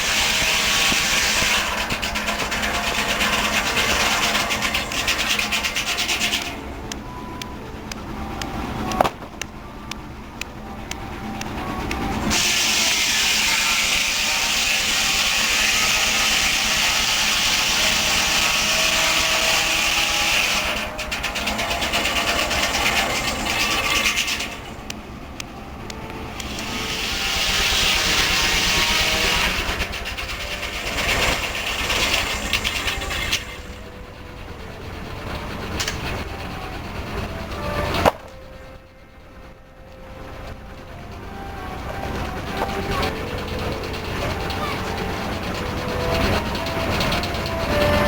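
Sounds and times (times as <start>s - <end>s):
loud steam hissing: 0.0s - 8.9s, 10.1s - 38.6s, 40.9s - 48.0s
steam engine chugging: 0.0s - 48.0s.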